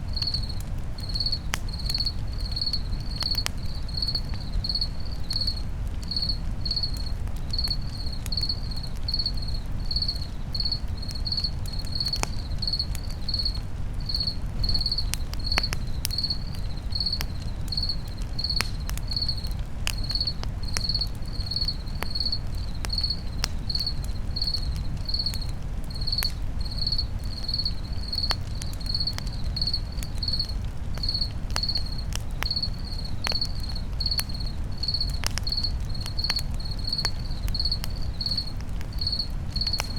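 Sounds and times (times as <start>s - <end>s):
campfire crackling: 0.0s - 39.9s
cricket chirping: 0.1s - 39.9s.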